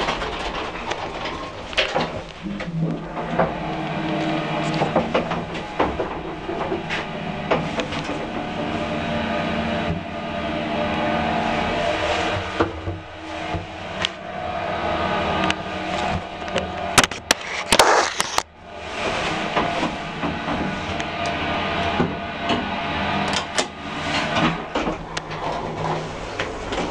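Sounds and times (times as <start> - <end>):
lift rattling: 0.0 - 18.0, 18.6 - 26.9
electric lift motor hum: 0.7 - 26.9.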